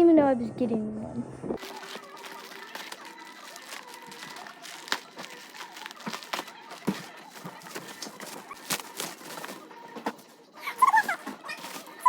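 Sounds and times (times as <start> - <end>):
plastic packaging crinkling: 1.6 - 12.0.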